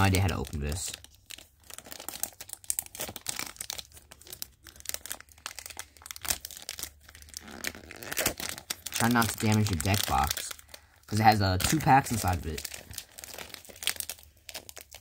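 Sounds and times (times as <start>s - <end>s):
plastic shrink-wrap crinkling: 0.0s - 15.0s.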